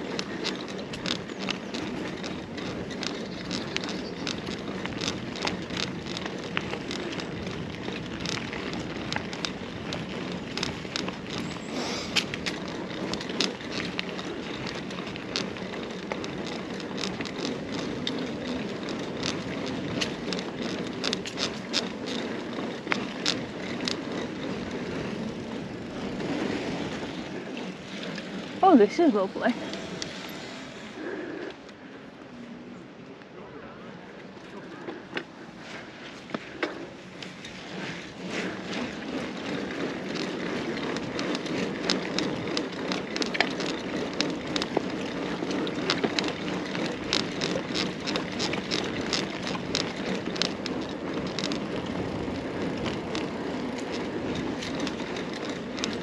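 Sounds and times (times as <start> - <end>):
small crackles and clicks: 0.0 - 30.4, 34.3 - 56.0
bike tyres rumbling on path: 0.0 - 56.0.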